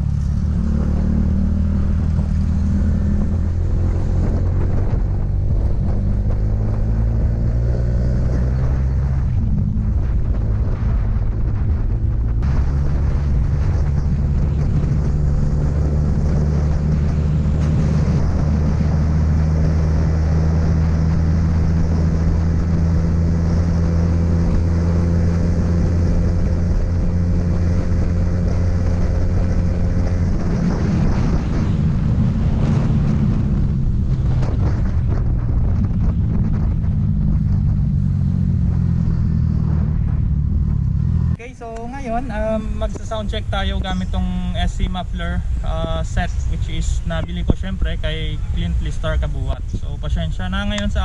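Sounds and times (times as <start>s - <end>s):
motorcycle engine cruising: 0.0s - 51.0s
wind on microphone: 0.0s - 51.0s.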